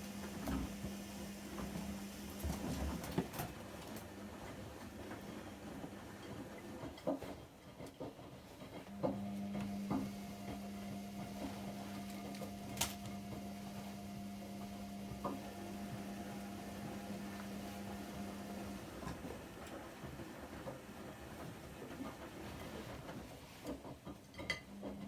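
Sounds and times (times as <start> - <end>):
washing machine hum: 0.0 - 25.0.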